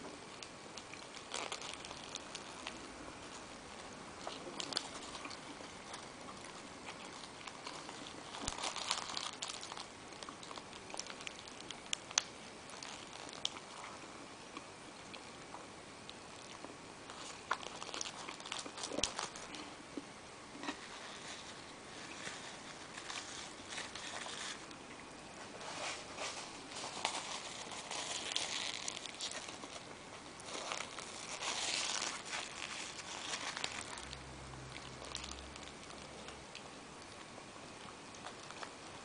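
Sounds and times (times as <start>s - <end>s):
paper wrapper crinkling: 0.3s - 14.0s, 17.1s - 19.7s, 20.6s - 24.8s, 25.4s - 37.2s.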